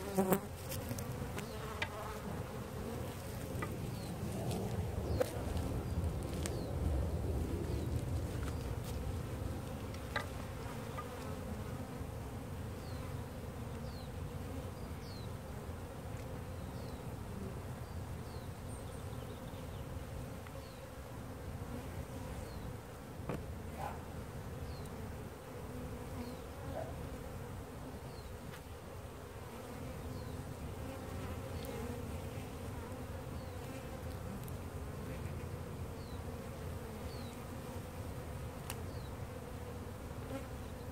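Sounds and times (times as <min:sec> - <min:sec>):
bee colony buzzing: 0:00.0 - 0:40.9.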